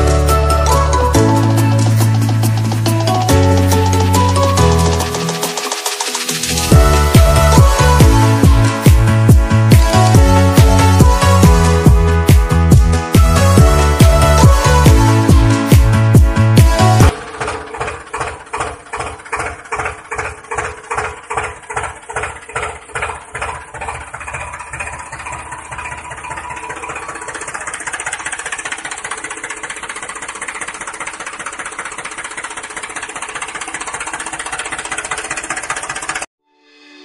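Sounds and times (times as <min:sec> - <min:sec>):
tractor engine chugging: 0:00.0 - 0:36.3.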